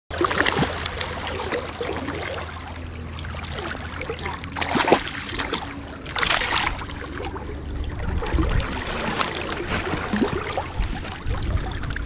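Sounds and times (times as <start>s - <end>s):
low rumble: 0.1s - 12.0s
river water flowing and splashing: 0.1s - 12.0s.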